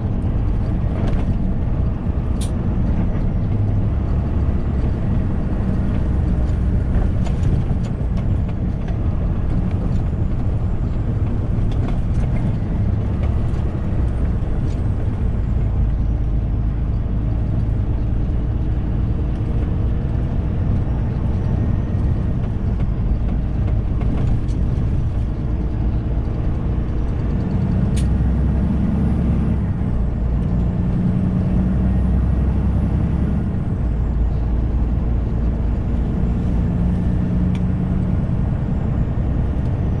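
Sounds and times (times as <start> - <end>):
road noise: 0.0 - 40.0
truck engine drone: 0.0 - 40.0.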